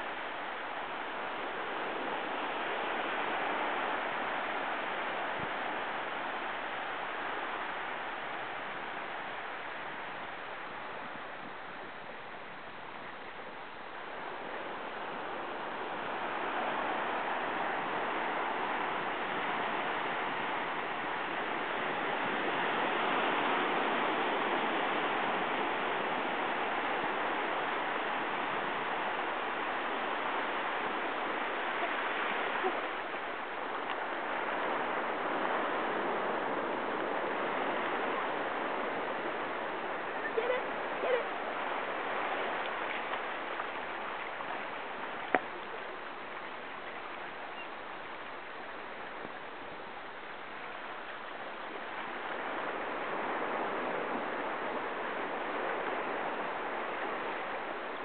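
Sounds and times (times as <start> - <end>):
small waves breaking: 0.0 - 58.0.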